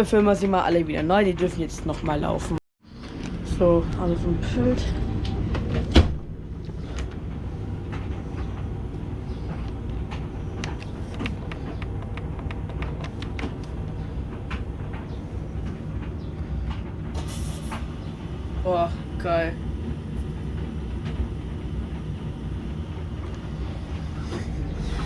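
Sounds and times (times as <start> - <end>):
tumble dryer rumbling: 0.0 - 25.0.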